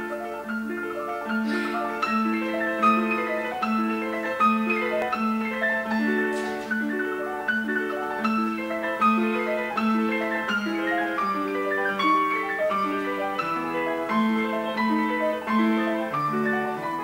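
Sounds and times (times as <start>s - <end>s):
bell-like keyboard notes: 0.0s - 17.0s.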